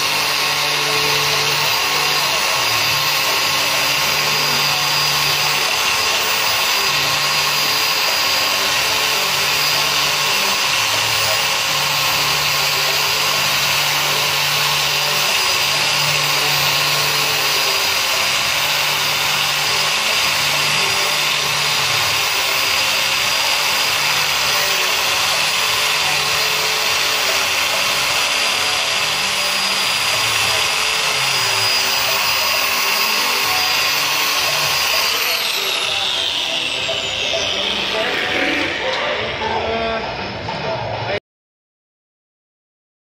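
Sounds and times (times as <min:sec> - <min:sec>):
bevelling machine cutting steel: 0:00.0 - 0:40.1.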